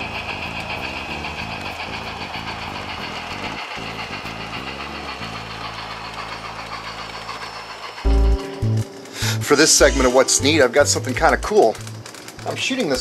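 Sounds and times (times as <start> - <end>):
model steam locomotive chuffing: 0.0 - 13.0.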